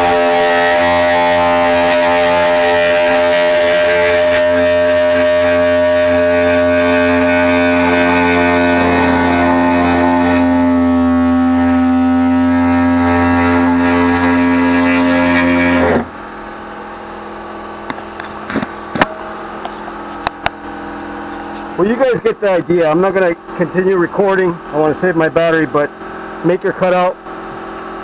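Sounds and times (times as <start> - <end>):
pneumatic air saw whining: 0.0 - 24.8.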